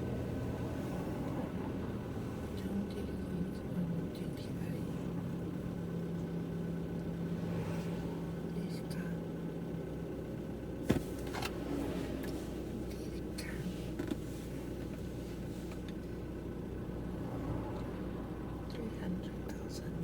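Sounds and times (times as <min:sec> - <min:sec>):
car engine hum and road noise: 0:00.0 - 0:20.0.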